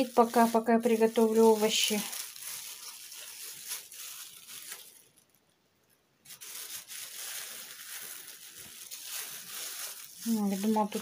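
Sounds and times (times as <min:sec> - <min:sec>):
plastic film crinkling and tearing: 0:00.0 - 0:05.4, 0:06.2 - 0:11.0.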